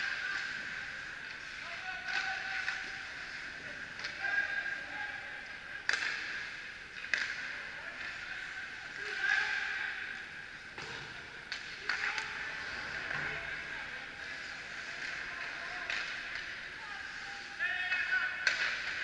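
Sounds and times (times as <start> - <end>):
hockey sticks and puck clacking: 0.0 - 19.0.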